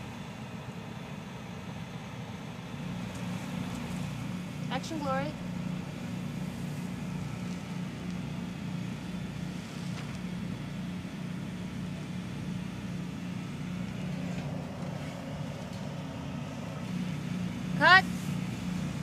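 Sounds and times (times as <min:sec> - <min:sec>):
generator humming: 0:00.0 - 0:19.0.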